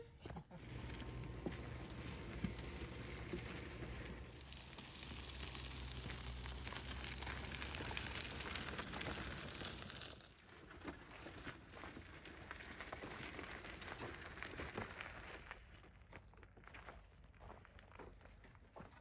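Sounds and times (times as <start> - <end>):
footsteps on gravel: 0.3 - 19.0
wagon wheels crunching on gravel: 0.6 - 19.0.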